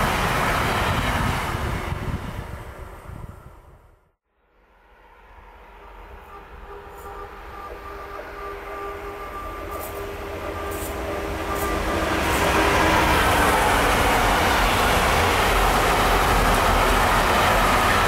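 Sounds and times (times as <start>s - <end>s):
freight train rail noise: 0.0s - 18.0s.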